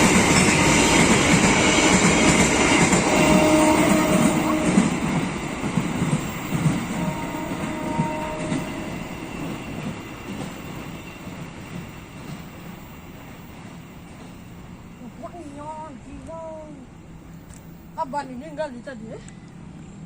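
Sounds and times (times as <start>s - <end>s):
train rumbling and clattering: 0.0s - 20.0s.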